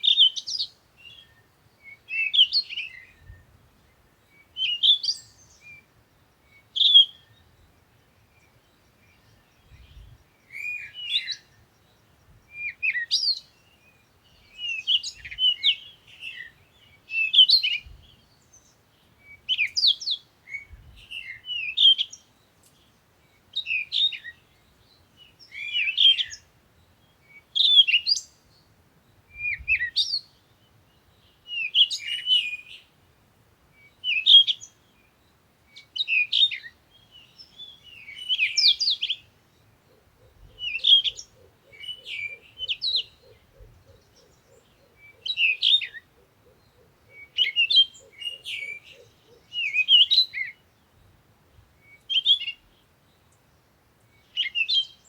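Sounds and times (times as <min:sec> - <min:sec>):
songbird twittering: 0:00.0 - 0:33.0, 0:33.7 - 0:55.0.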